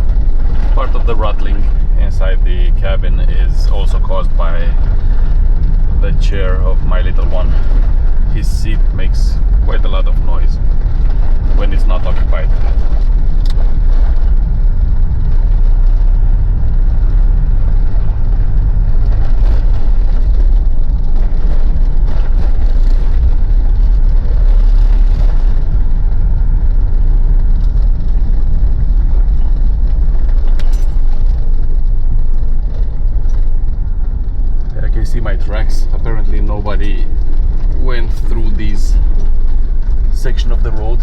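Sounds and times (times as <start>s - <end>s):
engine and road rumble: 0.0s - 41.0s.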